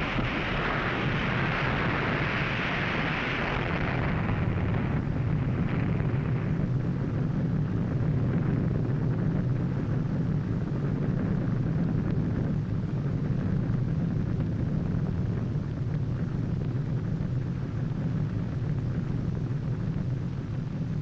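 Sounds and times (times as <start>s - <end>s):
explosion rumble with hiss: 0.0s - 21.0s.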